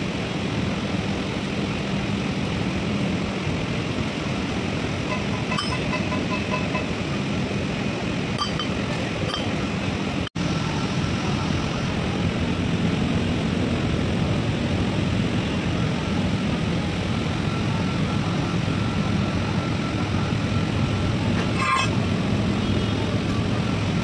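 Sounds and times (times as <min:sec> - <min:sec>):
mechanical running noise with hum: 0:00.0 - 0:24.0.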